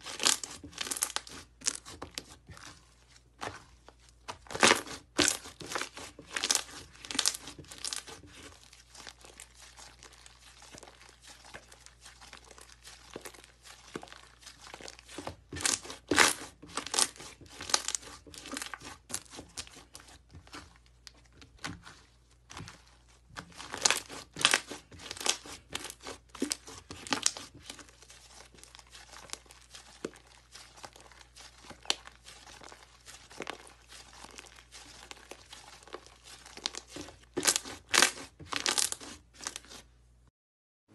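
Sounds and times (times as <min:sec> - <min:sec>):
slime crackling and popping: 0:00.0 - 0:02.3, 0:04.2 - 0:19.7, 0:23.4 - 0:27.9, 0:28.6 - 0:39.8.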